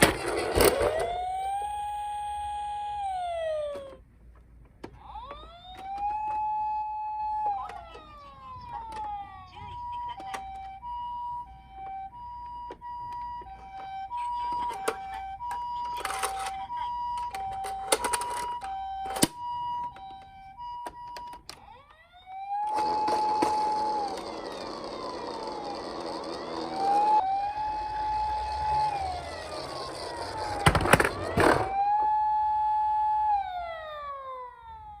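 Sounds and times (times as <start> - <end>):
wailing toy sirens: 0.0 - 4.0, 4.8 - 35.0
toy siren two-tone: 0.4 - 4.0, 5.0 - 35.0.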